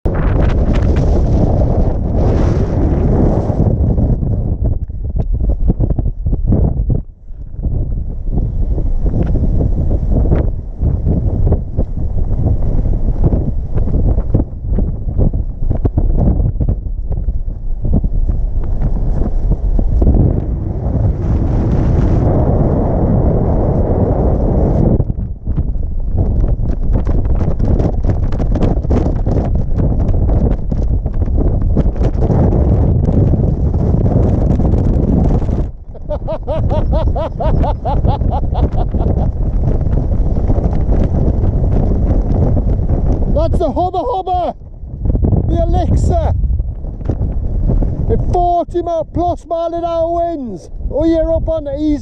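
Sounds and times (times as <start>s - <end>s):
strong gusting wind: 0.0s - 52.0s.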